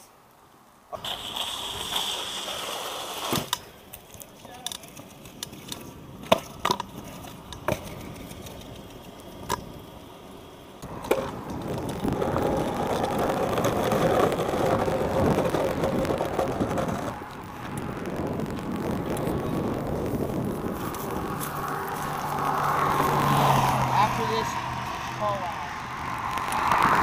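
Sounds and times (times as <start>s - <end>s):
scooter wheels rolling on asphalt: 0.9s - 27.0s.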